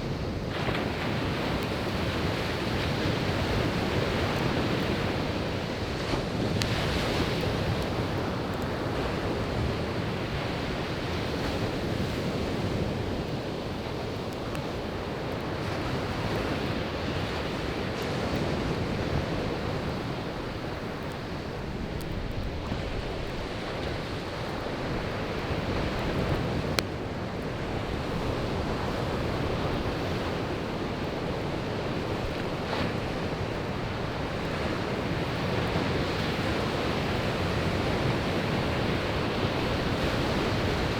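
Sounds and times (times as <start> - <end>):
campfire crackling: 0.0 - 40.9
sea waves washing onto beach: 0.0 - 40.9.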